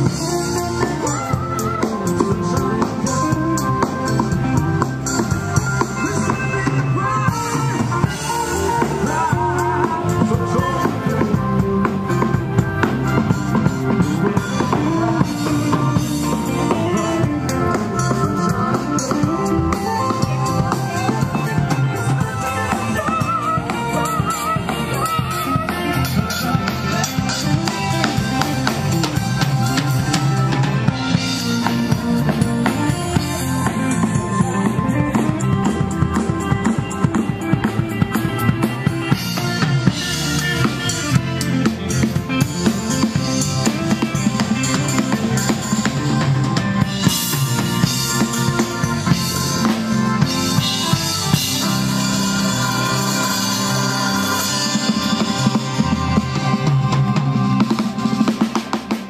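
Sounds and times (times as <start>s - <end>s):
drum kit beat: 0.0s - 59.0s.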